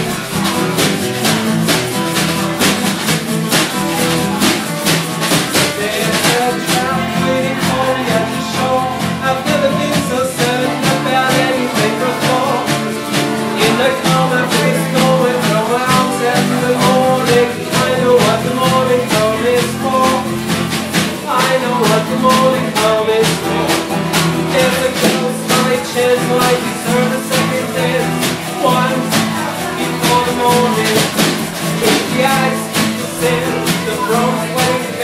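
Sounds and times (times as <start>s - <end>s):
acoustic guitars strummed: 0.0s - 35.0s
snare drum beat: 0.0s - 35.0s.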